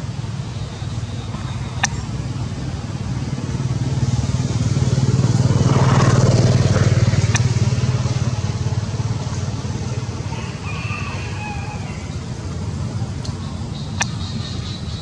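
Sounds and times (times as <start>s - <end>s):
passing vehicle engine hum: 0.0s - 15.0s.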